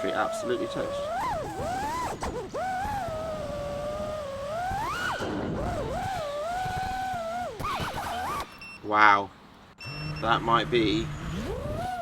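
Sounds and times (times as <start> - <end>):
drone motors whining: 0.0 - 8.6, 9.8 - 12.0.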